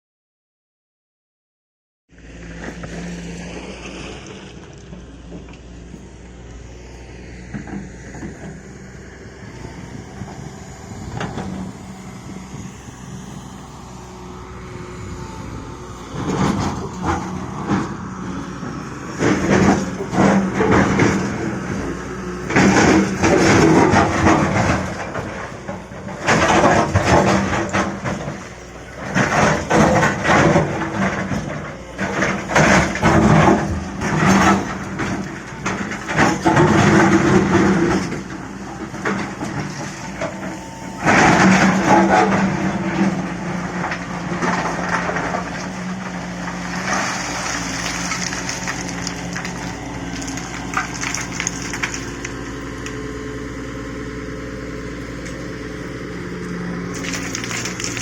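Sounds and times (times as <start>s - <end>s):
excavator diesel engine running: 2.2s - 58.0s
loud rough engine bursts: 7.6s - 58.0s.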